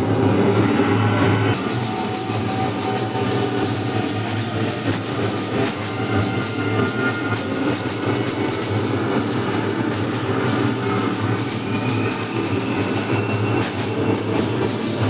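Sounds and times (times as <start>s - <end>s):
music with fast drumbeat: 1.6s - 15.0s.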